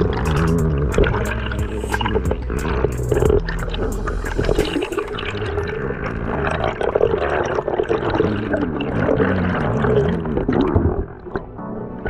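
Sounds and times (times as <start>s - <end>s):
underwater bubbling: 0.0s - 12.0s.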